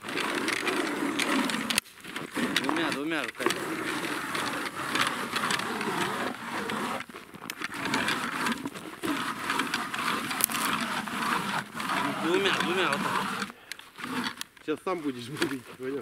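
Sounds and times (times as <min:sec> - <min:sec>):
ice auger scraping ice: 0:00.0 - 0:16.0.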